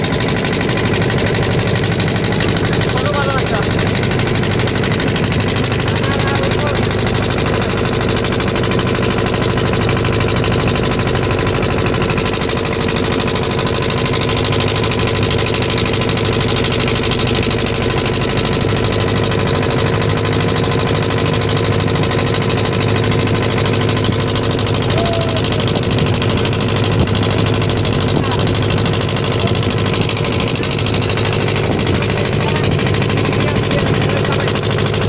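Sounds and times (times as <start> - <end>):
boat engine running: 0.0 - 35.0.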